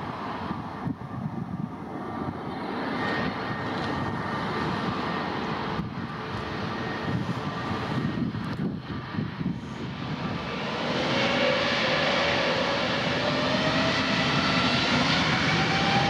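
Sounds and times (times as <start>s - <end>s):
airplane engines rumbling: 0.0s - 16.0s.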